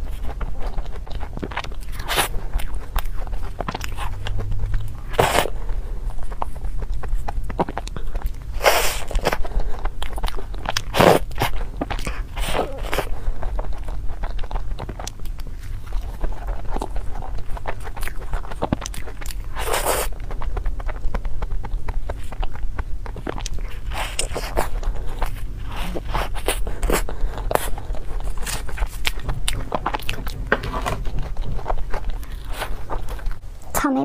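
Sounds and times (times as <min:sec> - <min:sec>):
biting and chewing: 0:00.0 - 0:33.8
steady low hum: 0:00.0 - 0:34.0.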